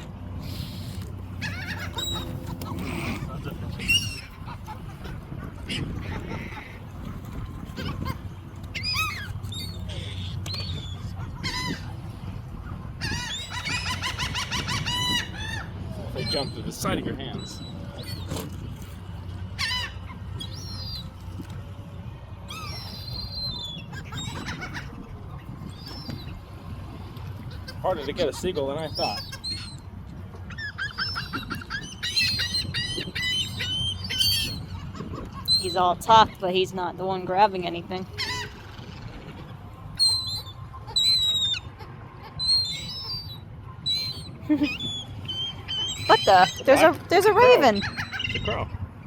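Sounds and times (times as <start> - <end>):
gulls calling: 0.0 - 49.0
shorebirds whistling: 0.0 - 49.0.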